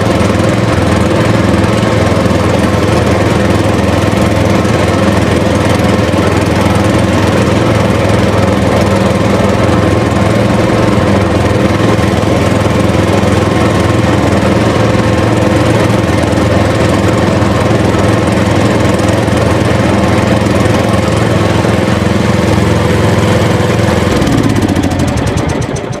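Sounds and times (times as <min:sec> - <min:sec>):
motor running: 0:00.0 - 0:26.0.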